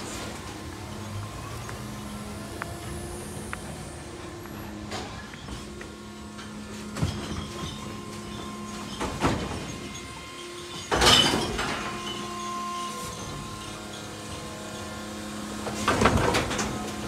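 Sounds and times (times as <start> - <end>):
garbage truck electric hum: 0.0 - 17.0.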